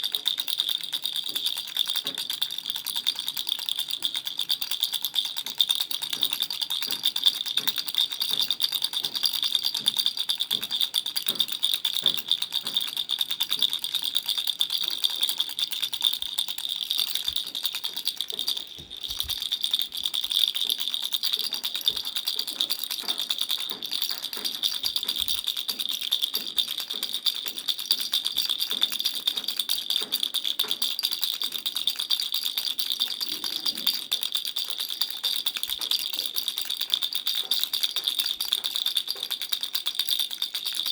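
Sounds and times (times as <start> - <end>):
baby rattle shaken: 0.0 - 40.9.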